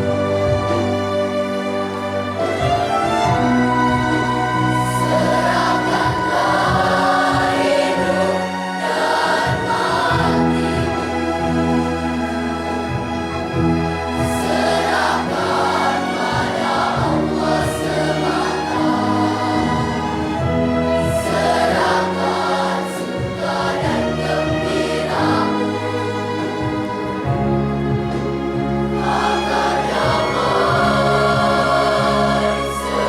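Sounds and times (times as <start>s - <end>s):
children's choir singing: 0.0s - 33.0s
flute: 0.0s - 33.0s
piano: 0.0s - 33.0s
string orchestra: 0.0s - 33.0s.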